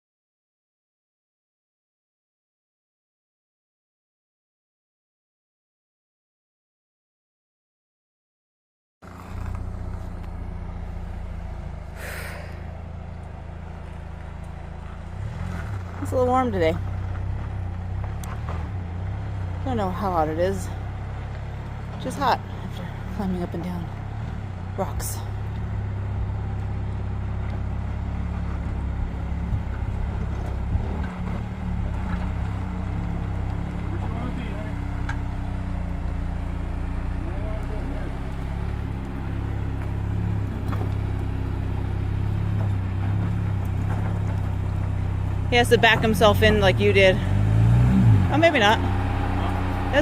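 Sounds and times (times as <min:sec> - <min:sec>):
vehicle engine idling: 0:09.0 - 0:50.0.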